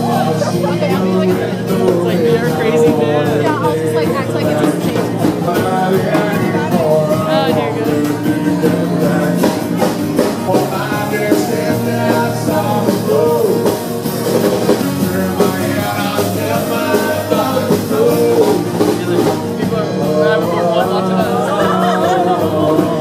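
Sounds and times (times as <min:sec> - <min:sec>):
drums: 0:00.0 - 0:23.0
live rock band playing: 0:00.0 - 0:23.0
person singing: 0:00.0 - 0:23.0.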